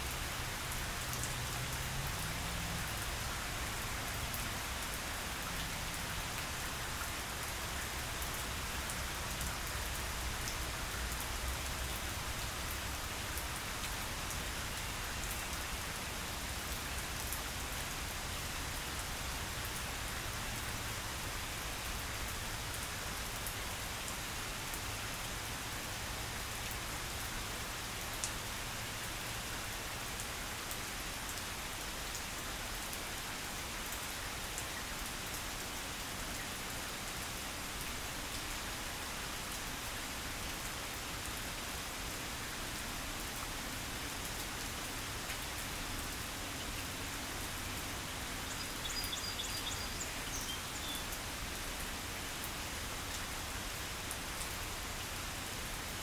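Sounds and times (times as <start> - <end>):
rain falling on grass: 0.0 - 56.0.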